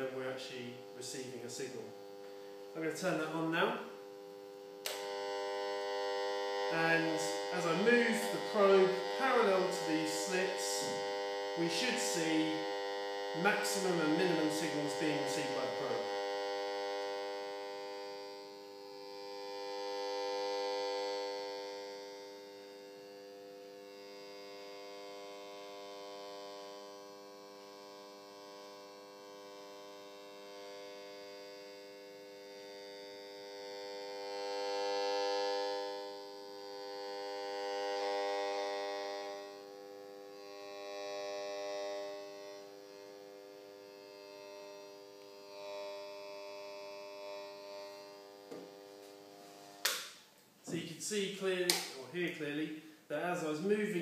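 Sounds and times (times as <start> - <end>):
buzzing tone from loudspeaker: 0.0 - 54.0.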